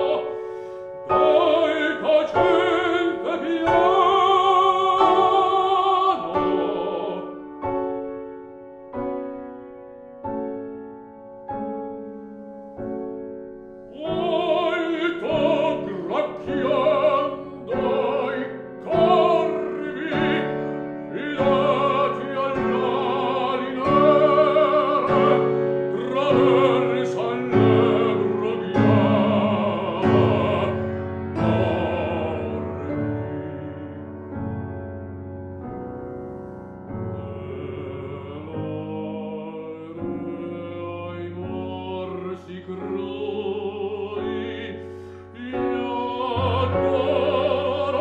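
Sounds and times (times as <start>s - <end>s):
baritone singing with vibrato: 0.0s - 7.6s, 13.9s - 34.7s, 36.9s - 48.0s
piano accompaniment: 0.0s - 48.0s.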